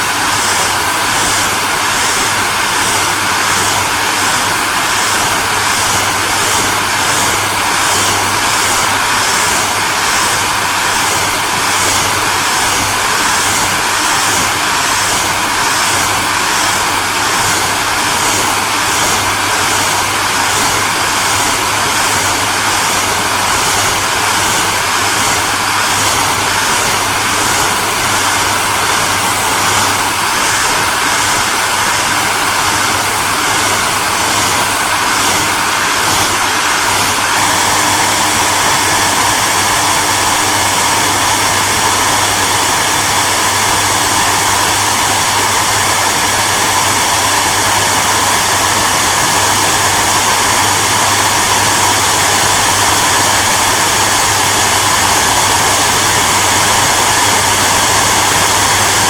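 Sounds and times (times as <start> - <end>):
hairdryer blowing air: 0.0 - 59.0.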